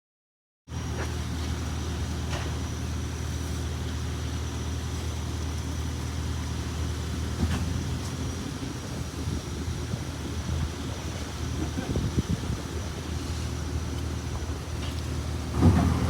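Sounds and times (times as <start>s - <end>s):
engine humming: 0.7s - 16.0s.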